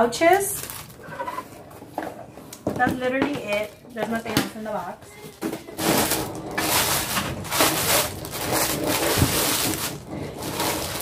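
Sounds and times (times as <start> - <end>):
plastic bag crinkling: 0.0 - 1.7, 3.4 - 11.0.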